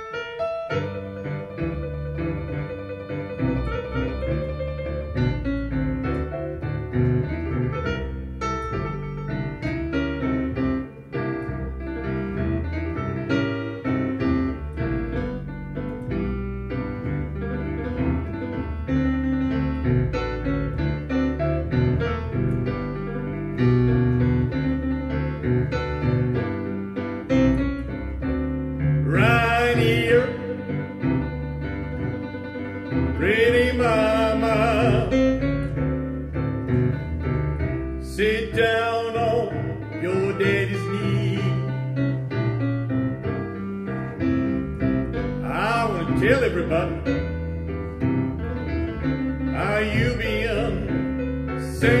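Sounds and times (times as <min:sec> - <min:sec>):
boogie-woogie piano music: 0:00.0 - 0:52.0.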